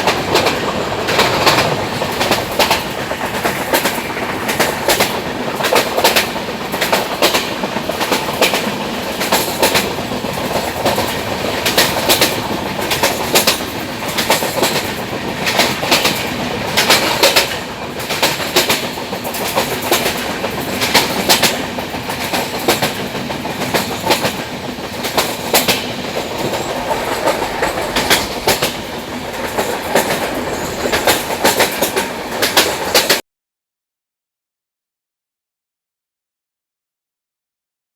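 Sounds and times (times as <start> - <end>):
train rolling rumble: 0.0 - 33.2
train wheels clickety-clack: 0.0 - 33.2.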